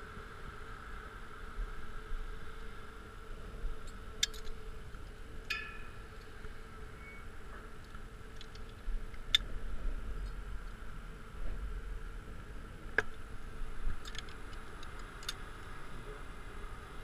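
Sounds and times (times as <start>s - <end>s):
faint steady hum: 0.0s - 17.0s
wind rumble on microphone: 0.0s - 17.0s.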